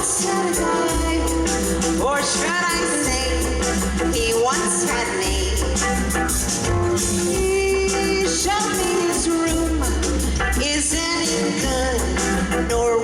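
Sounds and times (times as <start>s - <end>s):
bass line: 0.0s - 13.0s
live band playing: 0.0s - 13.0s.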